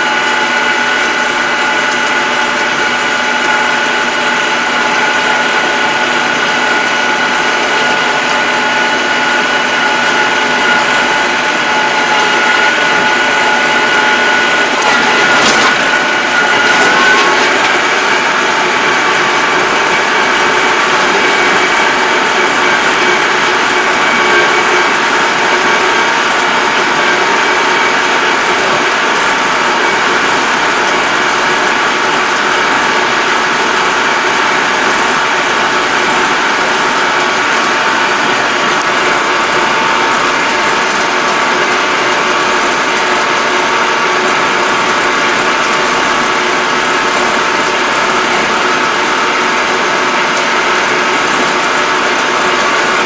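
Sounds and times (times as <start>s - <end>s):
mechanical whine: 0.0s - 53.0s
tractor engine running: 0.0s - 53.0s.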